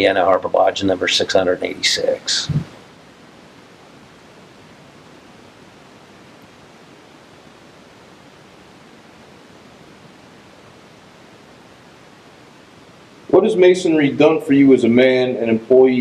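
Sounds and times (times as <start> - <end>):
steady recording hiss: 0.0 - 16.0.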